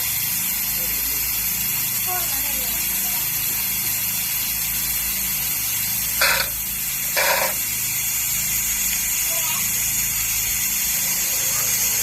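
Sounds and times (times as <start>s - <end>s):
short hissing spray bursts: 0.0s - 12.0s
steady background hum and hiss: 0.0s - 12.0s.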